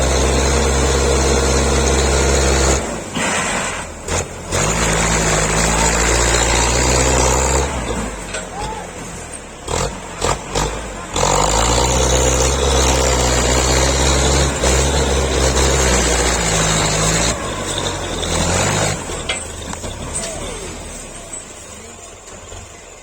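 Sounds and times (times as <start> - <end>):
tractor diesel engine revving: 0.0 - 23.0.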